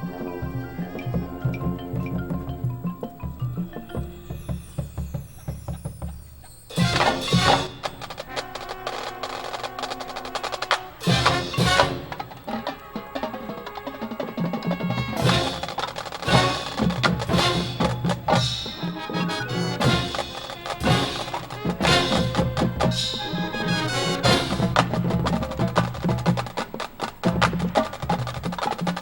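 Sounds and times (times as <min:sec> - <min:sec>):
sharp accented percussion hits: 0:00.0 - 0:28.9
marching band playing: 0:00.0 - 0:29.0.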